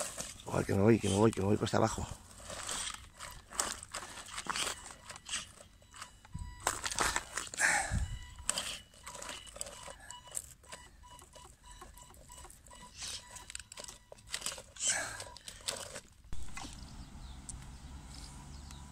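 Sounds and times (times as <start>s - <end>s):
gravel crunching under tyres: 0.0s - 18.9s.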